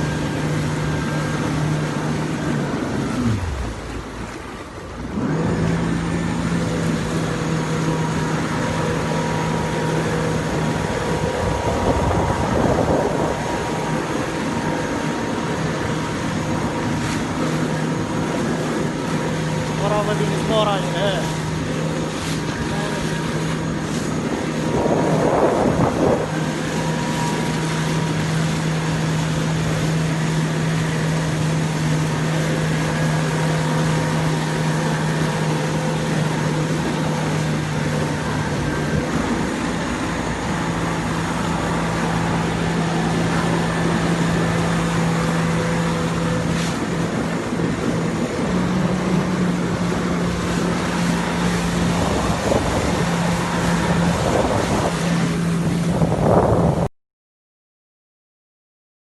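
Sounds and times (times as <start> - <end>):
jet ski engine running: 0.0 - 56.9
rush of water: 0.0 - 56.9
wind buffeting microphone: 6.7 - 56.9.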